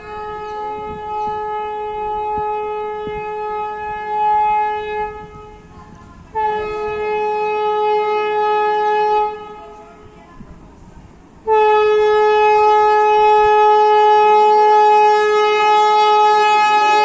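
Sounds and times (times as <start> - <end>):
train horn blasts: 0.0 - 10.4, 11.3 - 17.0.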